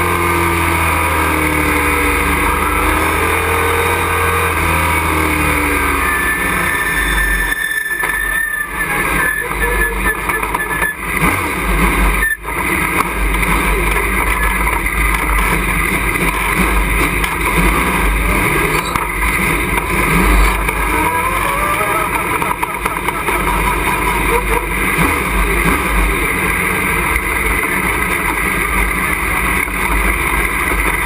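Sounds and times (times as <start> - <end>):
road and wind noise: 0.0 - 31.0
truck engine running: 0.0 - 31.0.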